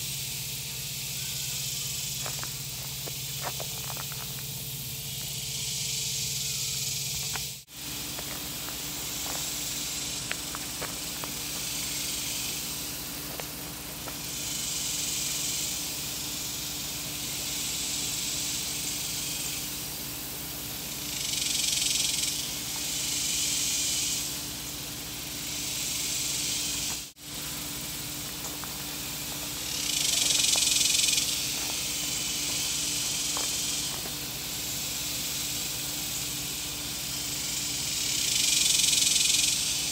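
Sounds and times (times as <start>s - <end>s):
high outdoor hiss: 0.0s - 39.9s
steady low hum: 0.0s - 39.9s.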